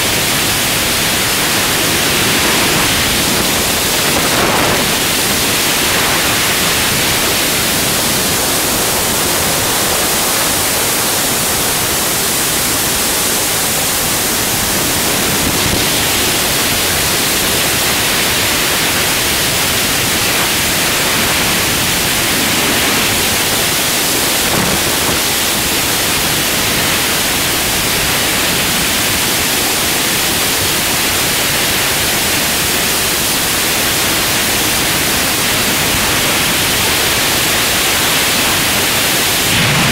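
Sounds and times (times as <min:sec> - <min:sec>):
freefall wind rushing: 0:00.0 - 0:39.9.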